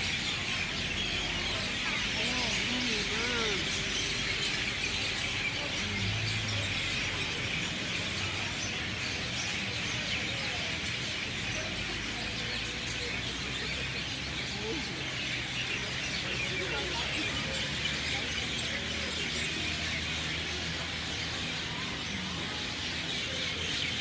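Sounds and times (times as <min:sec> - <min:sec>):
chorus of birds chirping: 0:00.0 - 0:24.0.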